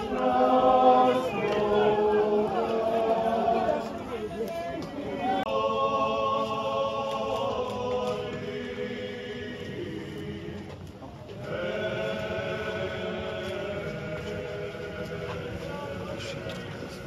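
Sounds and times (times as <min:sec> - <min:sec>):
group chanting long notes: 0:00.0 - 0:04.4, 0:05.0 - 0:17.0.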